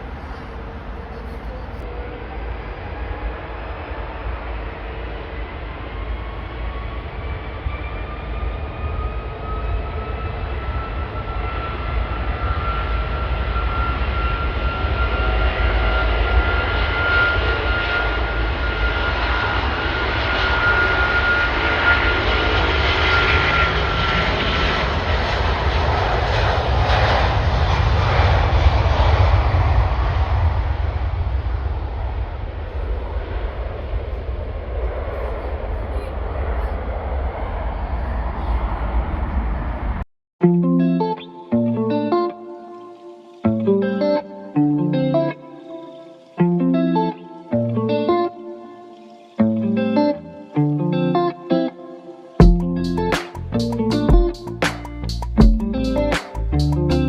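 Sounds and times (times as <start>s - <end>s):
jet engine whine: 0.0s - 40.1s, 41.0s - 57.0s.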